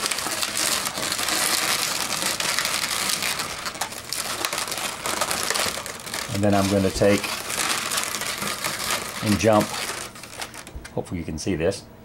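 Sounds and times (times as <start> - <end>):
balloons rubbing and squeaking: 0.0 - 10.7.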